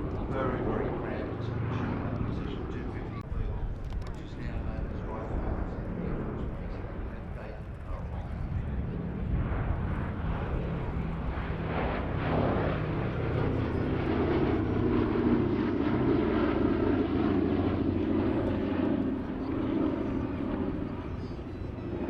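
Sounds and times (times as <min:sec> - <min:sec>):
propeller plane engines droning: 0:00.0 - 0:22.0.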